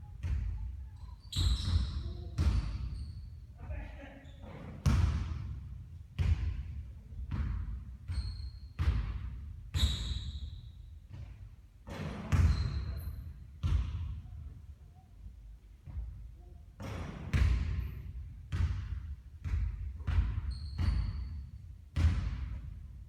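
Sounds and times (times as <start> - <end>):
basketballs bouncing on a court: 0.0 - 3.8, 4.4 - 14.6, 15.7 - 23.0.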